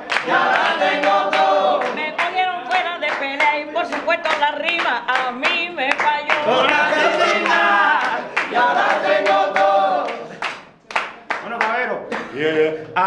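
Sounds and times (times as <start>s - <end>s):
group of voices singing: 0.0s - 10.6s.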